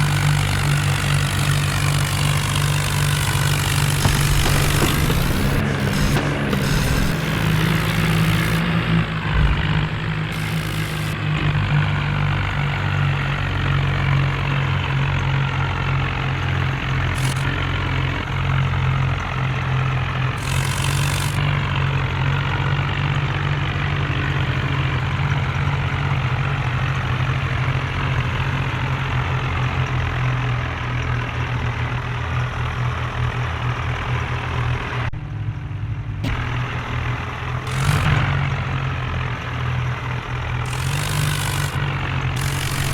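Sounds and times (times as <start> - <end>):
tractor diesel engines running: 0.0 - 42.9.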